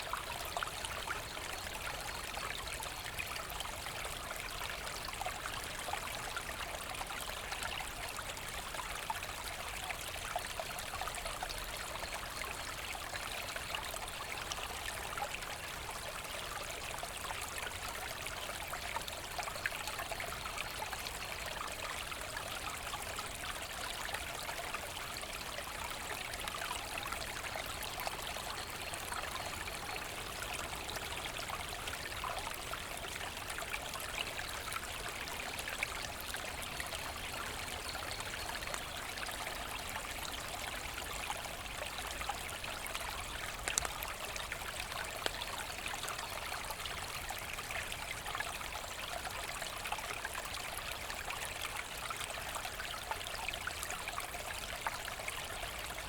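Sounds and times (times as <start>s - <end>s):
brook water trickling over stones: 0.0s - 56.0s.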